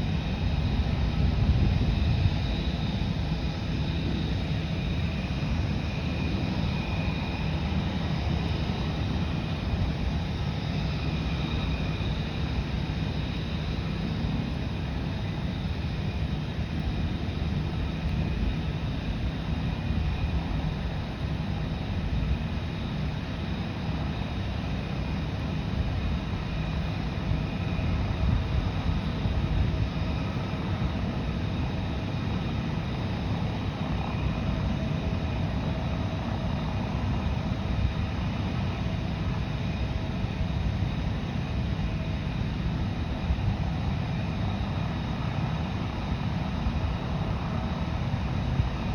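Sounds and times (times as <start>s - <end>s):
aircraft engines rumbling: 0.0s - 48.9s.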